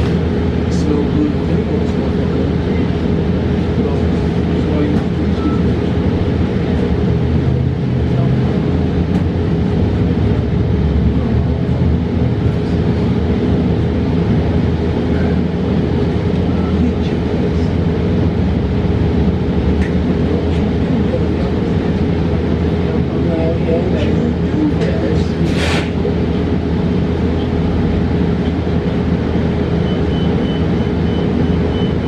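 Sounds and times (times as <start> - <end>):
bus road rumble: 0.0 - 32.0
constant hum: 0.0 - 32.0.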